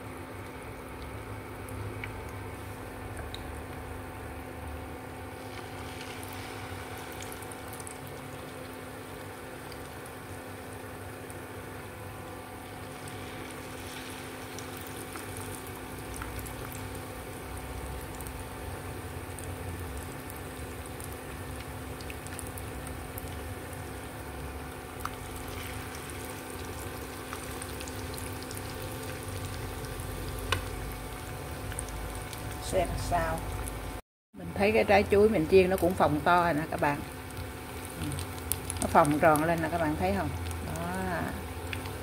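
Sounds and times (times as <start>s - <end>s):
food deep-frying in hot oil: 0.0s - 42.0s.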